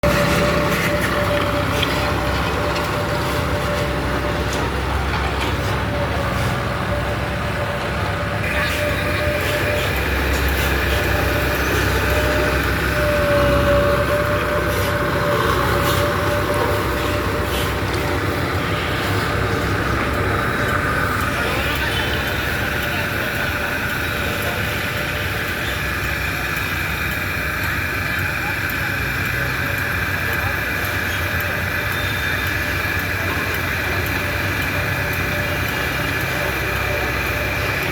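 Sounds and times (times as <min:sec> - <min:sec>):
constant machine whine: 0:00.0 - 0:37.9
low diesel engine rumble: 0:00.0 - 0:37.9.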